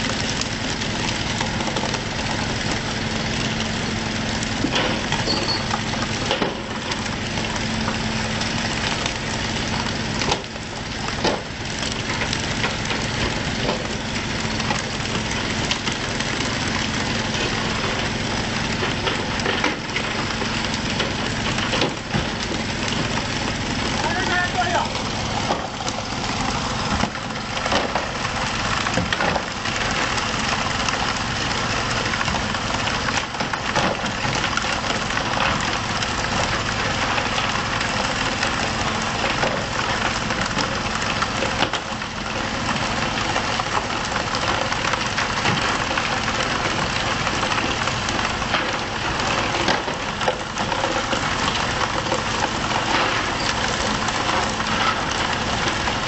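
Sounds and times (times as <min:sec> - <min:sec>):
boat engine running: 0:00.0 - 0:56.0
water spray hissing and splashing: 0:00.0 - 0:56.0.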